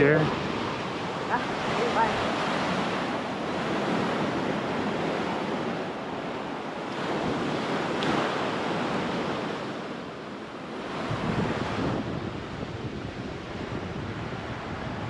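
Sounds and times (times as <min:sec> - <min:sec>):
ocean surf breaking on beach: 0:00.0 - 0:15.0
wind on microphone: 0:00.0 - 0:15.0.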